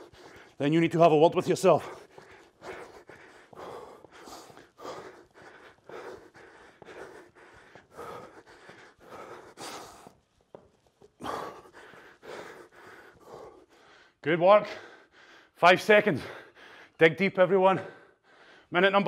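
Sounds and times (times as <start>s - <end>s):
man breathing hard: 0.0s - 17.0s, 17.8s - 18.7s.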